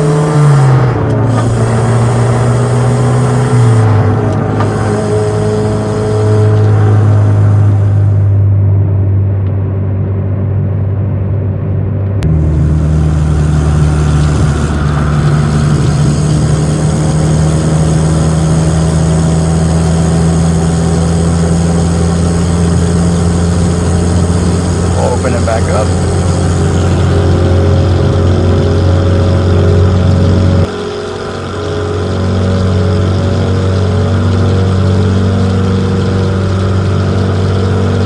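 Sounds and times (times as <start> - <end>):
car engine and exhaust droning: 0.0 - 38.0.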